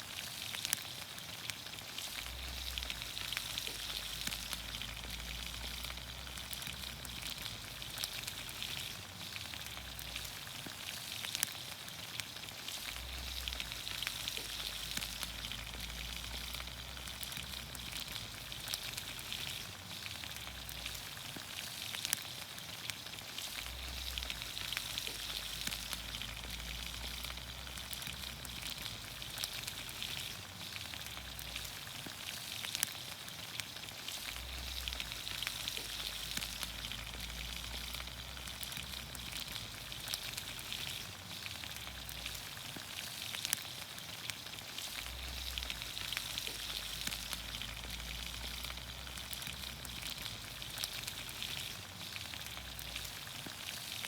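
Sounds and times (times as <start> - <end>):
small pops and crackles: 0.0 - 54.0
vegetables sizzling in oil: 0.0 - 54.0.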